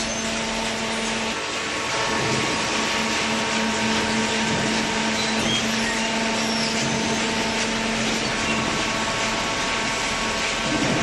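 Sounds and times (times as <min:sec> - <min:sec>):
hydraulic press motor hum: 0:00.0 - 0:11.0.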